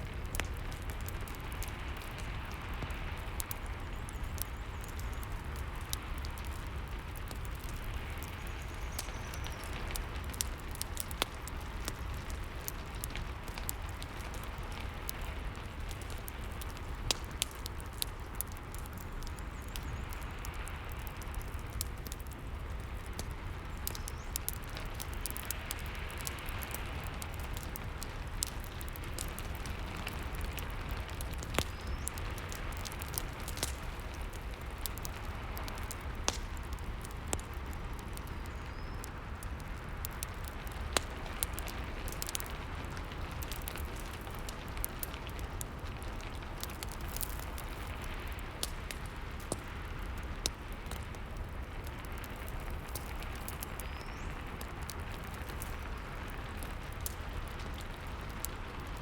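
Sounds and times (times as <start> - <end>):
steady rain: 0.0 - 59.0
wood fire crackling: 0.0 - 59.0.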